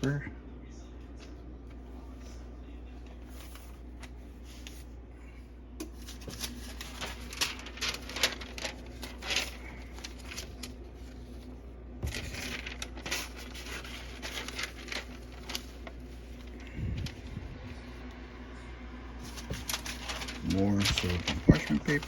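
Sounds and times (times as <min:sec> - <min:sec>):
parchment paper crinkling: 0:01.2 - 0:05.0, 0:05.8 - 0:22.0.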